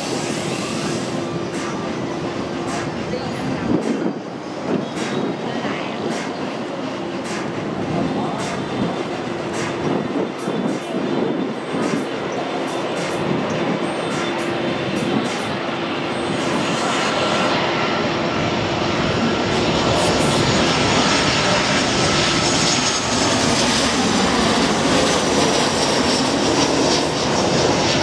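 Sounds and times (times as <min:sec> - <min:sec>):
jet airliner passing overhead: 0:00.0 - 0:28.0
jet engine whine dropping in pitch: 0:00.0 - 0:28.0.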